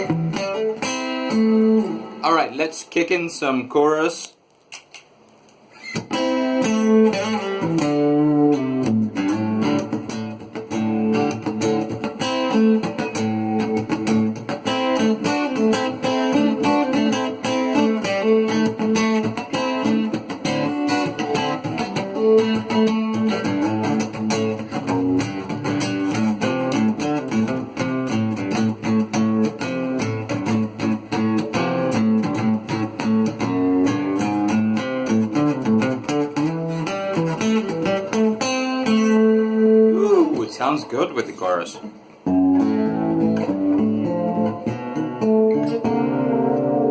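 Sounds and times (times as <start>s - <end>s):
acoustic guitar with chorus effect: 0.0s - 3.7s, 5.7s - 46.9s.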